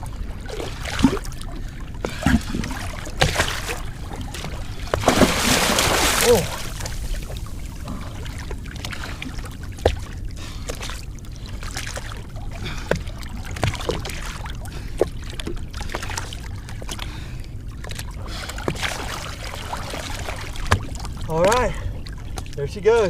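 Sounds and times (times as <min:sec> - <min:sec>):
small water splashes: 0:00.0 - 0:23.0
water sloshing and dripping: 0:00.0 - 0:23.0.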